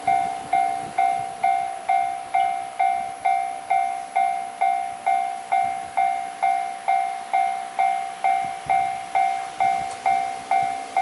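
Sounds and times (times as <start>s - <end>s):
level-crossing bell clanging: 0.0s - 11.0s.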